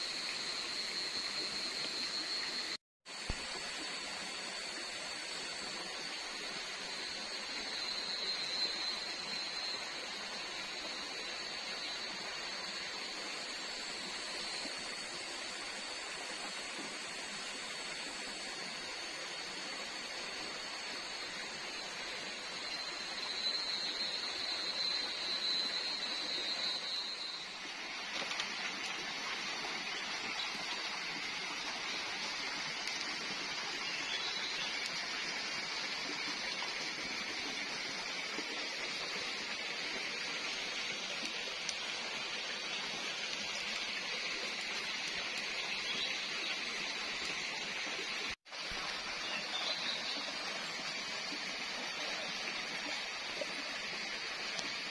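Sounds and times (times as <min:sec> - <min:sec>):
rushing hiss like a stream: 0:00.0 - 0:54.9.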